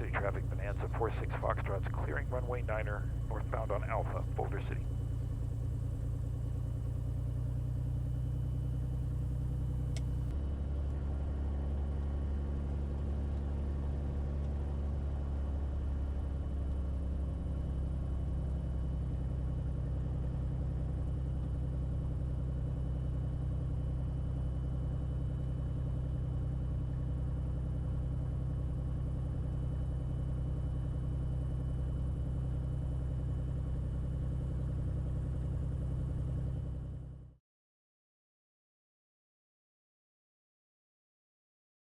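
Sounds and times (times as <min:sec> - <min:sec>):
piston aircraft engine running: 0:00.0 - 0:37.2.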